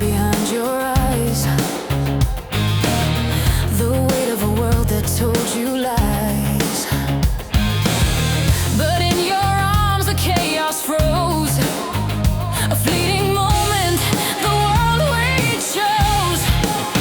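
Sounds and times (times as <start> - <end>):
heavy guitars and drums: 0.0 - 17.0.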